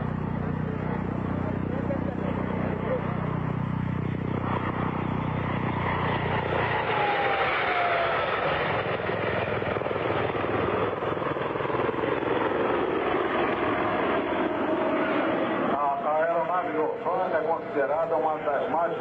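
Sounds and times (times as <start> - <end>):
helicopter flying past: 0.0 - 19.0.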